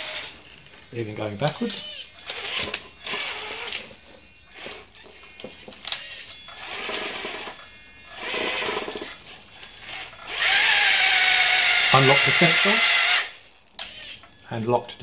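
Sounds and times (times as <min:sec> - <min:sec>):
electric motor whirring: 0:00.0 - 0:15.0.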